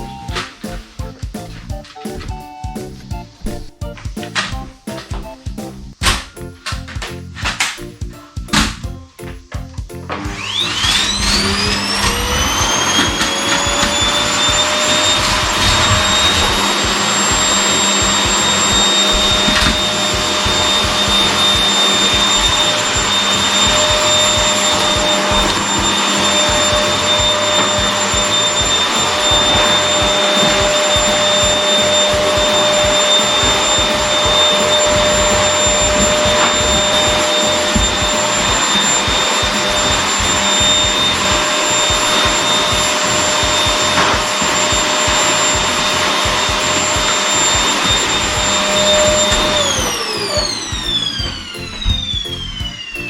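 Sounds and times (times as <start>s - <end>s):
vacuum cleaner running: 0.0s - 6.3s, 10.1s - 53.0s.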